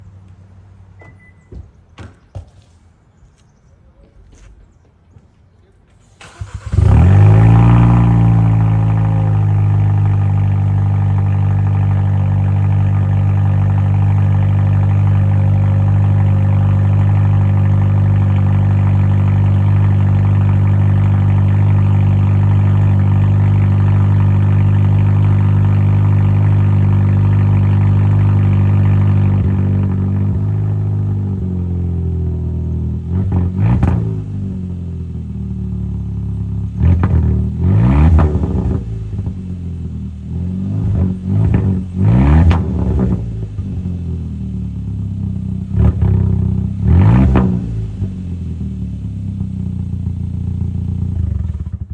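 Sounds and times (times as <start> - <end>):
car engine starting and idling: 5.9 - 51.9.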